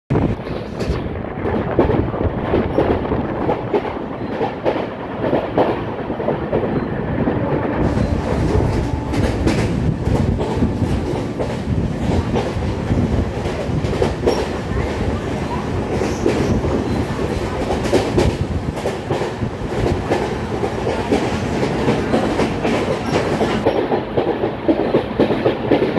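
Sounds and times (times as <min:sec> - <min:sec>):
train wheels rolling on rails: 0:00.2 - 0:25.9.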